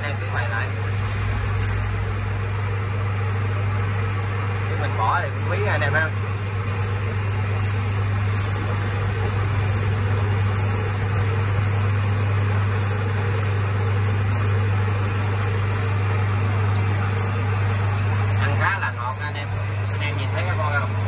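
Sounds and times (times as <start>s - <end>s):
coolant rushing noise: 0.0s - 21.0s
metal lathe hum: 0.0s - 21.0s.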